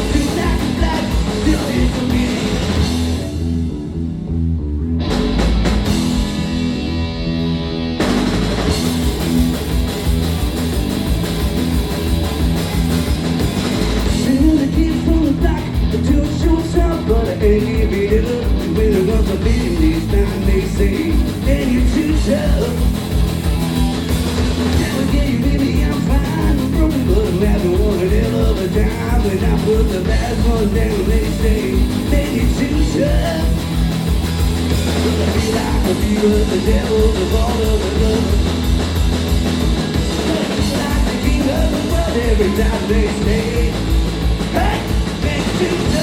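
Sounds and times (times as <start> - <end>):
bass guitar: 0.0 - 46.0
distorted electric guitars: 0.0 - 46.0
drum kit: 0.0 - 46.0.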